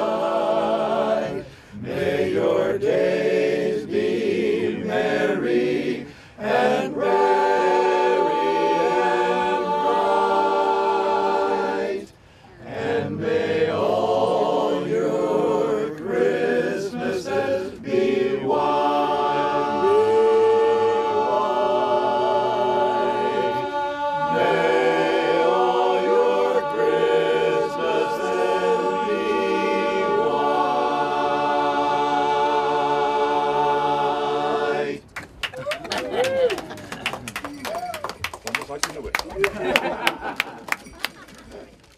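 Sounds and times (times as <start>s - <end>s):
men's a cappella chorus singing: 0.0s - 35.1s.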